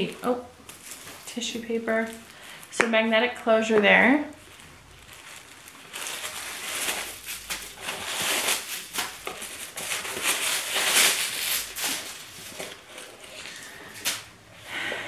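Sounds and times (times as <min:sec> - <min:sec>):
tissue paper crinkling: 0:00.0 - 0:02.8, 0:04.3 - 0:14.3.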